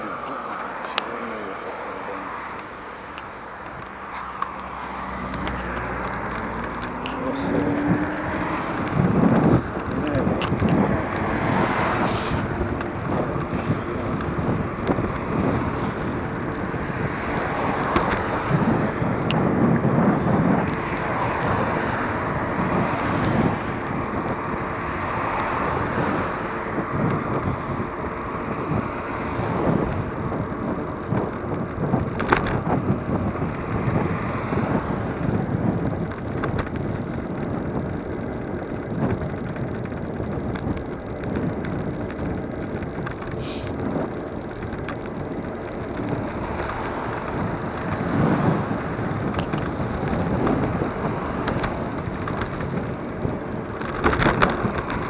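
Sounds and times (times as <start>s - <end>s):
car traffic: 0.0s - 55.0s
scooter road noise: 0.0s - 55.0s
wind rush over microphone: 0.0s - 55.0s.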